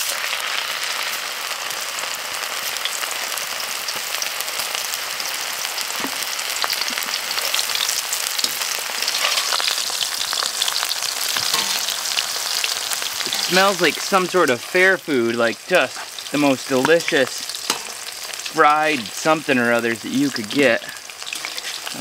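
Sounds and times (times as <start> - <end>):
oil sizzling in a wok: 0.0 - 22.0.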